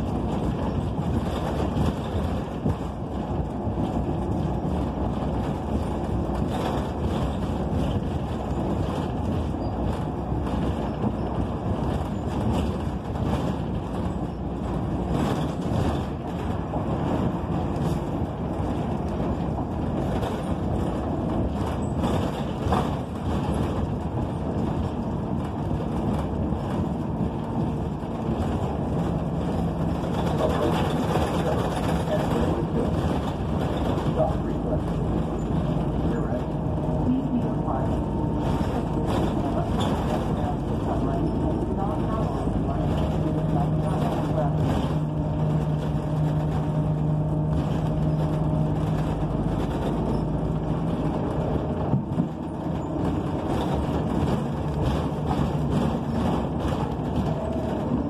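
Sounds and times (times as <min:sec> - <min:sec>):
bus engine drone: 0:00.0 - 0:58.0
road and wind noise: 0:00.0 - 0:58.0.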